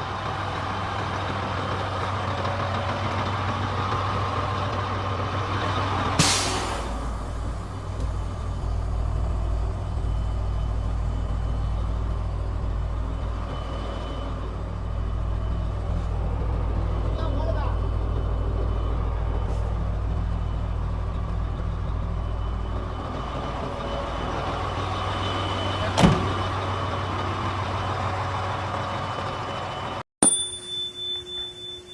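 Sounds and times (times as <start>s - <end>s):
diesel truck engine running: 0.0s - 30.0s.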